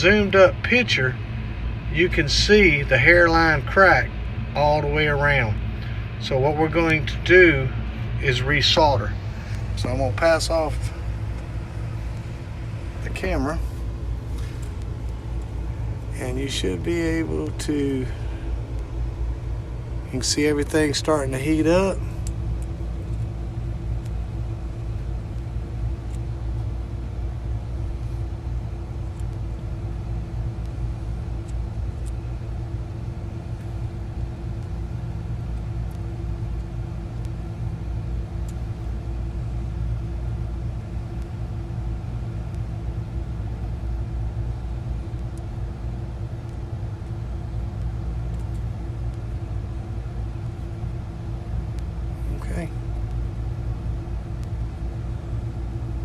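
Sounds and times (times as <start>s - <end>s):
low machinery hum and rumble: 0.0s - 56.0s.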